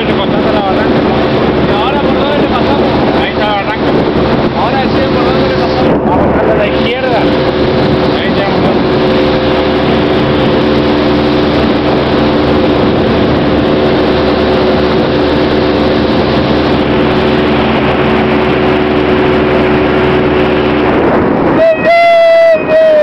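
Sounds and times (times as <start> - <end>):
motorboat engine droning: 0.0 - 23.0
rush of wind and water: 0.0 - 23.0.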